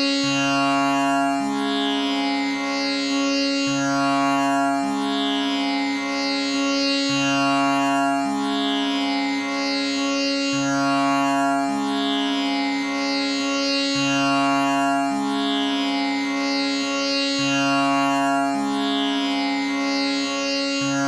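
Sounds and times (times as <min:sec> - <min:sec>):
continuous drone: 0:00.0 - 0:21.0.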